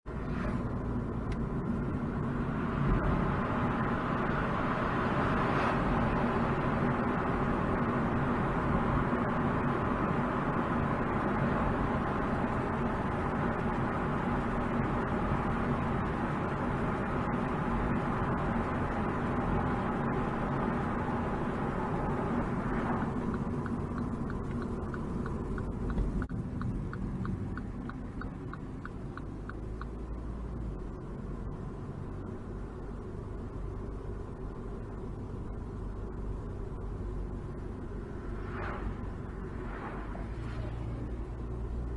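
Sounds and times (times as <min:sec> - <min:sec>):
car engine: 0:00.0 - 0:41.9
road noise: 0:00.0 - 0:41.9
turn signal ticking: 0:00.7 - 0:05.3, 0:06.0 - 0:38.2.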